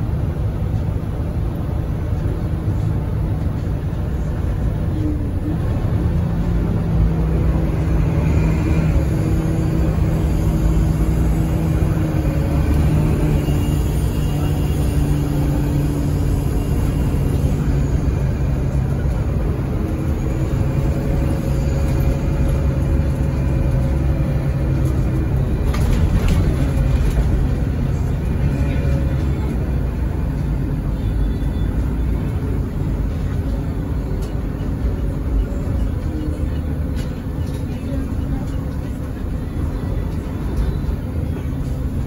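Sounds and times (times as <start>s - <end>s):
bus engine and road drone: 0.0s - 42.0s.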